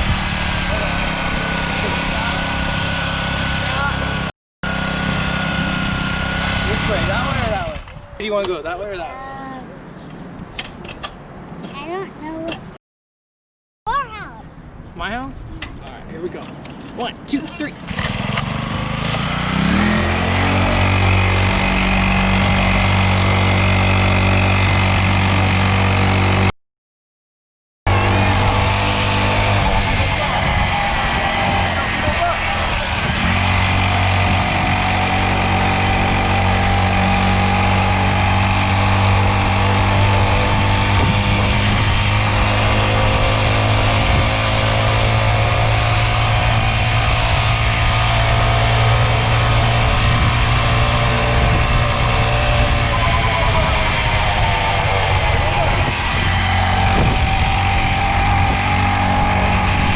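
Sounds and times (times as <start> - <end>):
dirt bike engine revving: 0.0 - 8.4, 17.7 - 26.5, 27.9 - 59.9.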